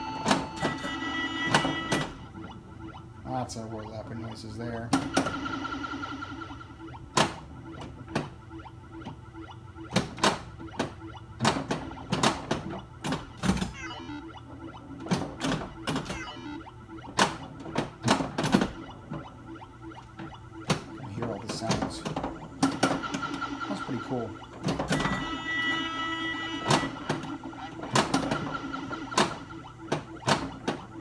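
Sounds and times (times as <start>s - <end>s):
pinball electronic sound effects: 0.0s - 31.0s
pinball mechanical knocks: 0.0s - 31.0s
steady background drone: 0.0s - 31.0s.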